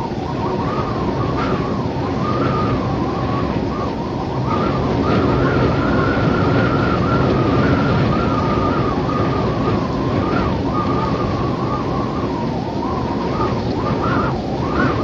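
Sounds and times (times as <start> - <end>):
whistling wind: 0.0 - 15.0.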